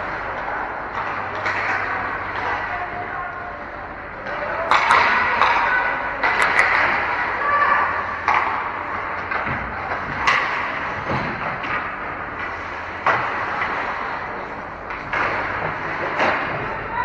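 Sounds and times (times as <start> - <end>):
hockey stick and puck clacks: 0.0 - 2.7, 4.2 - 16.8
arena noise: 0.0 - 17.0.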